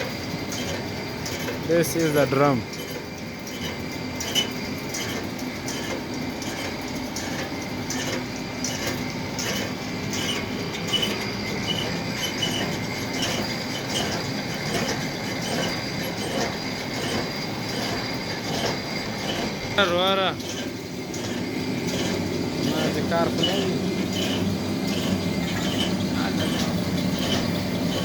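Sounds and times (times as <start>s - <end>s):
metal lathe whining: 0.0s - 28.0s.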